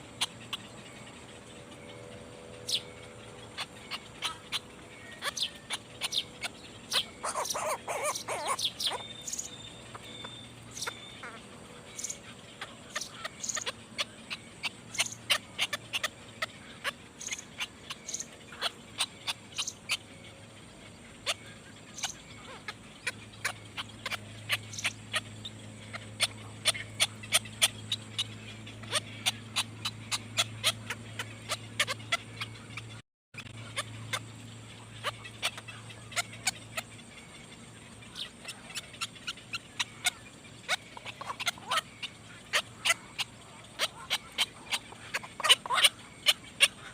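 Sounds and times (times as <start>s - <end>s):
low steady hum: 0.0s - 46.9s
nestling birds cheeping: 0.0s - 46.9s.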